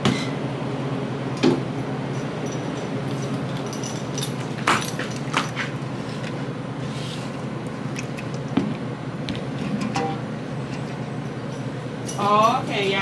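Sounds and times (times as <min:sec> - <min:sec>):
shop background noise: 0:00.0 - 0:13.0.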